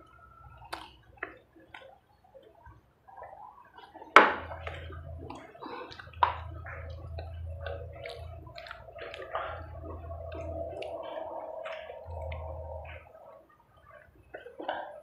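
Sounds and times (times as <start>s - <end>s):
wet chewing and swallowing: 0.0s - 15.0s.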